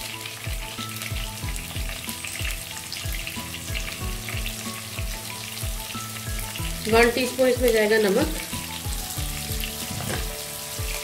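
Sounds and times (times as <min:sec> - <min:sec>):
music with thumping beat: 0:00.0 - 0:11.0
oil sizzling in a wok: 0:00.0 - 0:11.0.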